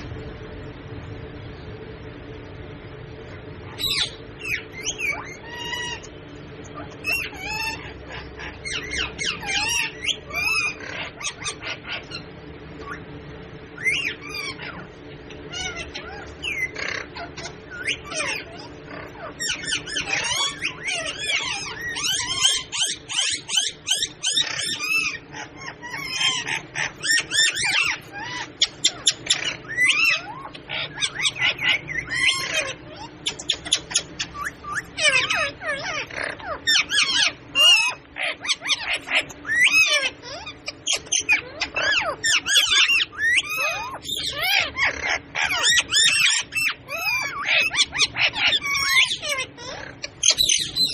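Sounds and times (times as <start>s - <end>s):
faint low hum: 0.0s - 50.9s
parrots squawking: 3.3s - 50.9s.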